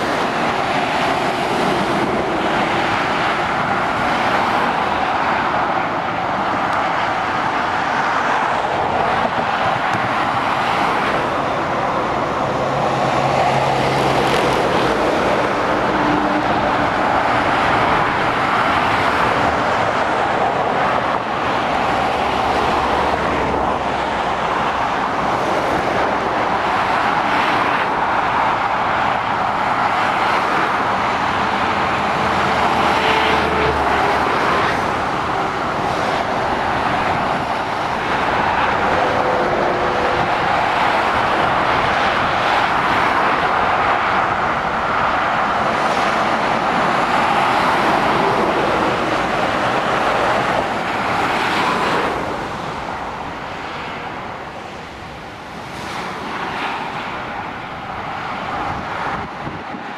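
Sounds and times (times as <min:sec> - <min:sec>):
heavy lorry engine: 0:00.0 - 0:59.9
motorway traffic passing: 0:00.0 - 0:59.9.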